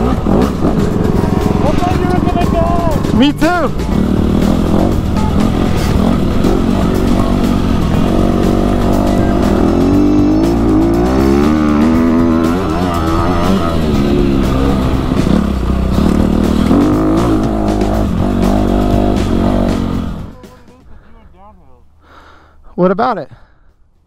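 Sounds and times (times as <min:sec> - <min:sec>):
dirt bike engine revving: 0:00.0 - 0:20.4.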